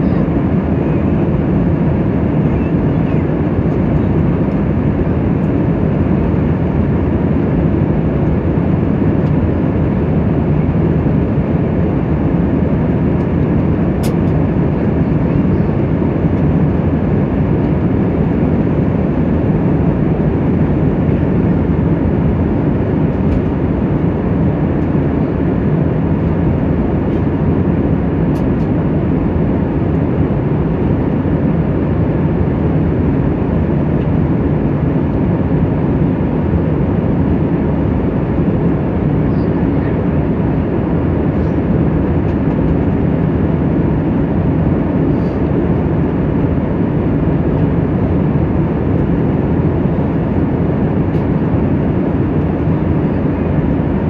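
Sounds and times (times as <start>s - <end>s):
airliner cabin engine and airflow noise: 0.0s - 54.0s.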